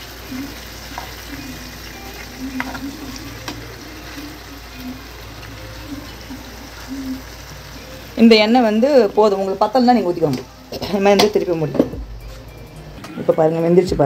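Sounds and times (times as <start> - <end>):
chicken sizzling in oil: 0.0 - 11.9.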